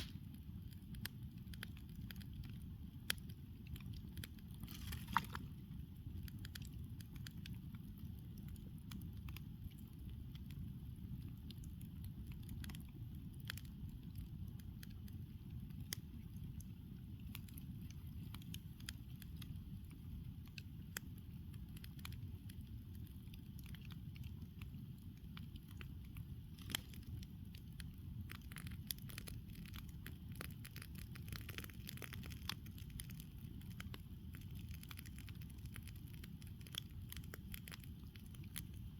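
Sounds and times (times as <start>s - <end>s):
fire low rumble: 0.0s - 38.9s
wood crackling and popping: 0.0s - 38.9s.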